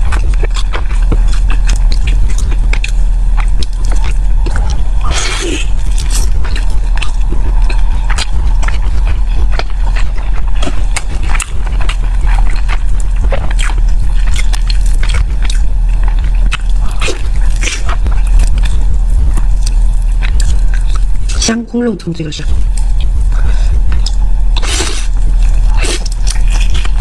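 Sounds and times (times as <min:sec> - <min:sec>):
chewing sticky rice: 0:00.0 - 0:21.5, 0:22.5 - 0:27.0
steady low hum: 0:00.0 - 0:27.0.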